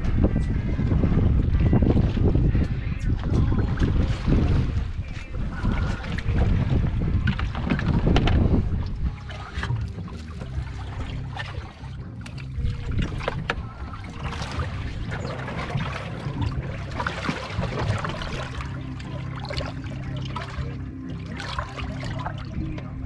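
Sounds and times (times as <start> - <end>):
low motor hum: 0.0 - 23.0
water sloshing against boat: 0.0 - 23.0
small splashes: 3.6 - 22.9.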